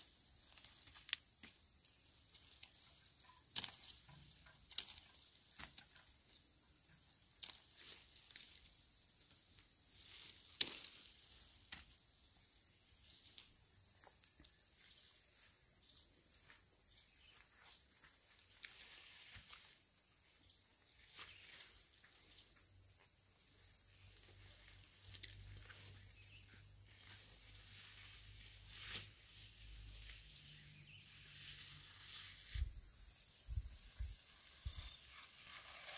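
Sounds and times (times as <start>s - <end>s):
high pulsing insect trill: 0.0s - 35.9s.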